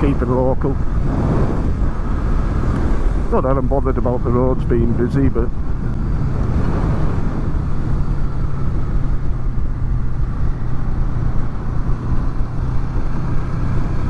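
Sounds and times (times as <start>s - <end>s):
motorcycle engine cruising: 0.0s - 14.0s
wind rushing over microphones: 0.0s - 14.0s.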